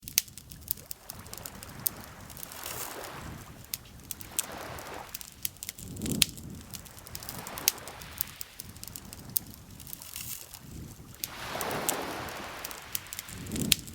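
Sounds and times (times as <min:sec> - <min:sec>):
campfire crackling and popping: 0:00.0 - 0:13.9
lake water lapping: 0:00.3 - 0:13.9.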